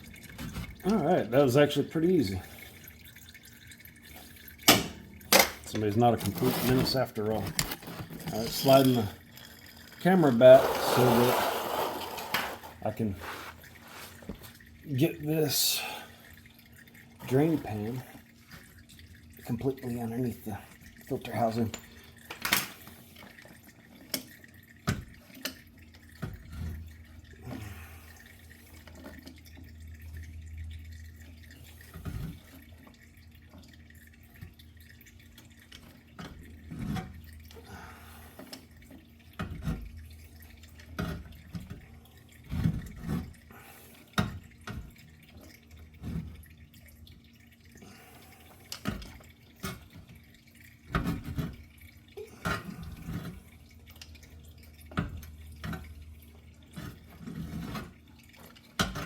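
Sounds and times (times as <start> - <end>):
oil dripping into a pan: 0.0 - 6.3, 13.6 - 59.0.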